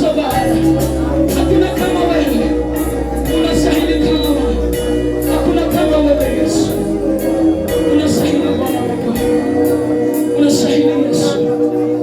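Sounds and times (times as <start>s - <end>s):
held chords: 0.0s - 12.0s
people singing: 0.0s - 12.0s.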